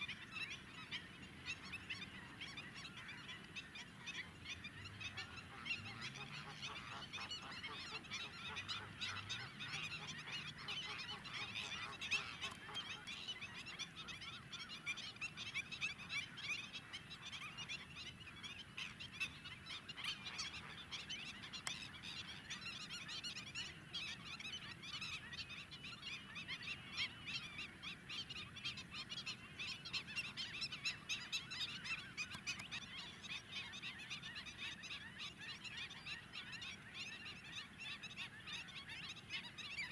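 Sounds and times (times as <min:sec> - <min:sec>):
flamingos honking and chattering: 0:00.0 - 0:39.9.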